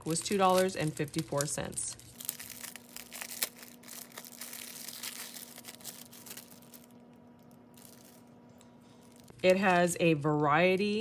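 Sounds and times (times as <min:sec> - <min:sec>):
cellophane sleeve crinkling: 0:00.0 - 0:09.8
faint steady hum: 0:00.0 - 0:11.0.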